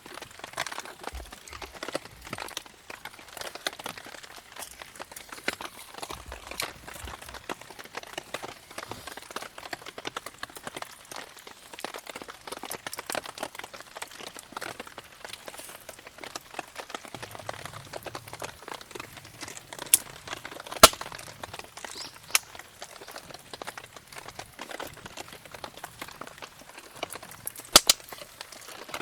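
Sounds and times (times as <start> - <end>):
campfire crackling: 0.0 - 29.0
firewood popping loudly: 0.0 - 29.0.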